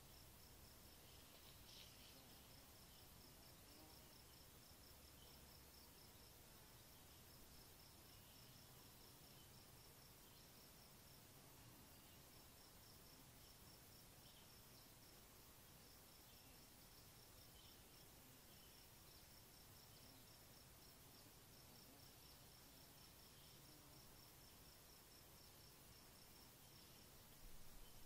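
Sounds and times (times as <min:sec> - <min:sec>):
insect chirping: 0:00.0 - 0:28.0
soft background hiss: 0:00.0 - 0:28.0.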